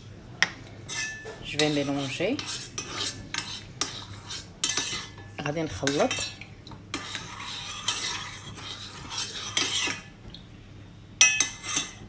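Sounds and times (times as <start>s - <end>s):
metal spoon scraping saucepan: 0.9s - 10.1s, 11.2s - 12.0s.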